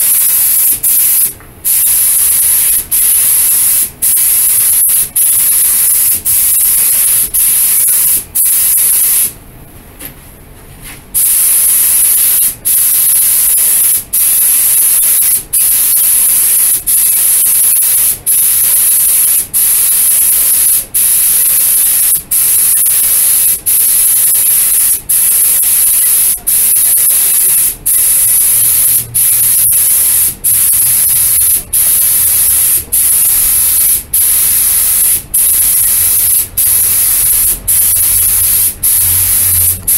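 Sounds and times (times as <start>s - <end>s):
paint spray gun hissing: 0.0s - 9.4s, 11.2s - 39.9s.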